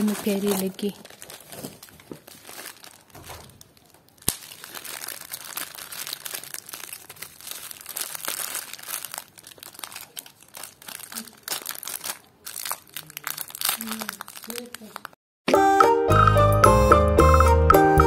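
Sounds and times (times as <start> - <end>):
bubble wrap crinkling: 0.0 - 15.2.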